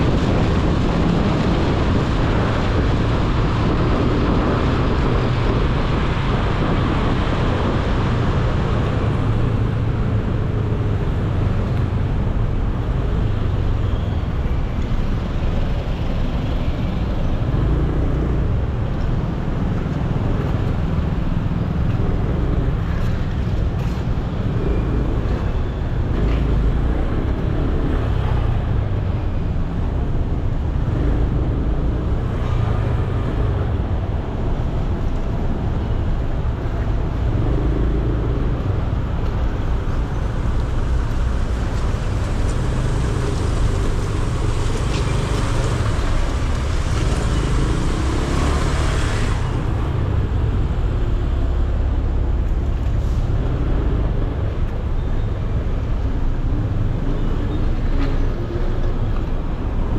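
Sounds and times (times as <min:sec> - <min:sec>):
city road traffic rumble: 0:00.0 - 0:59.9.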